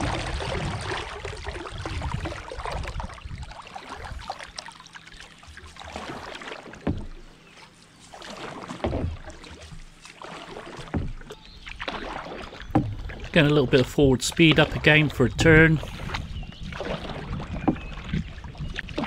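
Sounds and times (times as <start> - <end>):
sharp splash: 0.0 - 7.2, 8.1 - 13.3, 16.0 - 19.0
paddle strokes in water: 0.0 - 19.0.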